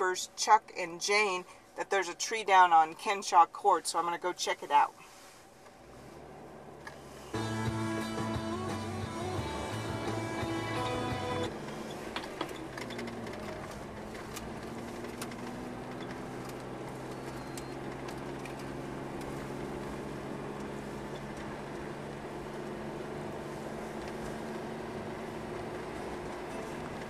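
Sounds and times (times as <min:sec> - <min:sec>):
car engine running: 0:00.0 - 0:27.0
road noise: 0:00.0 - 0:27.0.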